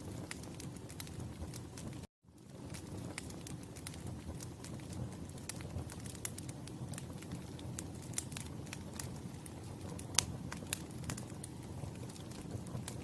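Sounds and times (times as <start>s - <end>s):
campfire crackling and popping: 0.0s - 13.0s
low rush of flame: 0.0s - 13.0s.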